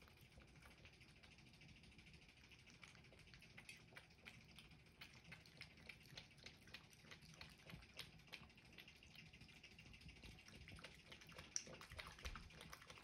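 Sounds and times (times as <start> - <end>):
cat lapping water: 0.0 - 13.0.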